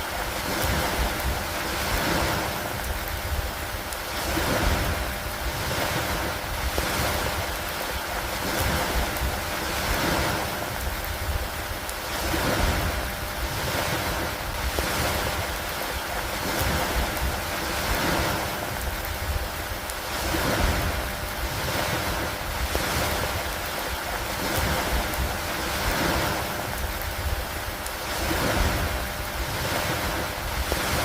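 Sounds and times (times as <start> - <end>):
lake water lapping: 0.0 - 31.0
steady rain falling: 0.0 - 31.0.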